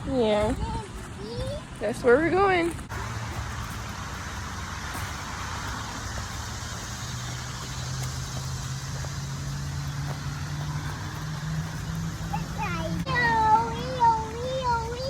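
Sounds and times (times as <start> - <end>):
road noise: 0.0 - 15.0
vehicle engine accelerating: 2.8 - 15.0.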